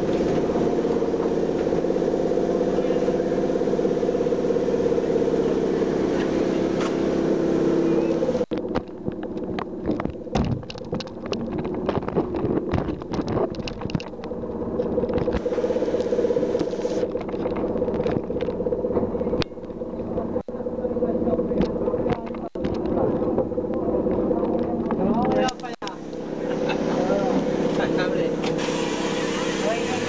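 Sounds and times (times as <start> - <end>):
electric tram humming: 0.0 - 30.0.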